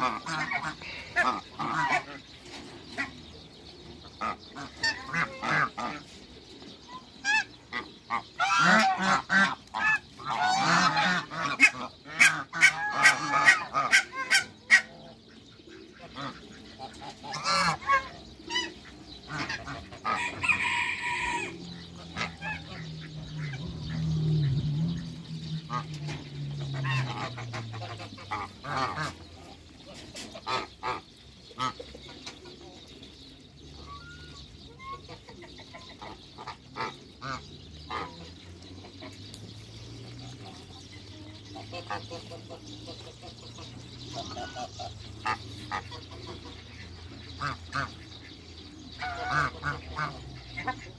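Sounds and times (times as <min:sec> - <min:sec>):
geese honking: 0:00.0 - 0:03.3, 0:04.0 - 0:50.9.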